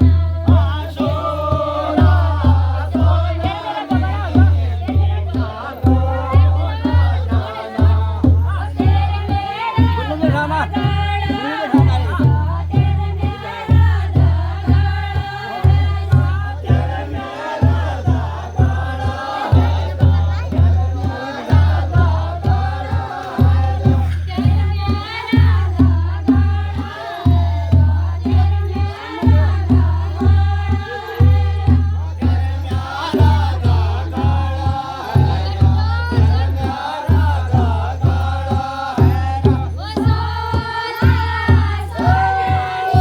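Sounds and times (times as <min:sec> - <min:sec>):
deep drum beat: 0:00.0 - 0:43.0
group of voices singing: 0:00.0 - 0:43.0.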